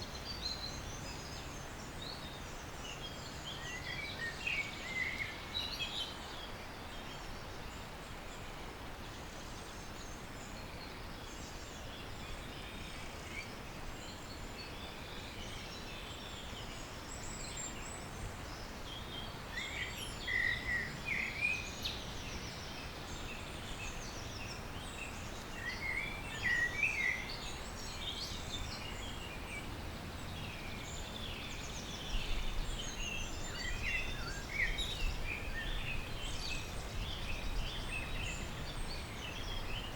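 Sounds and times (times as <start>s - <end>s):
outdoor background hiss: 0.0s - 39.9s
small birds chirping: 0.0s - 39.9s.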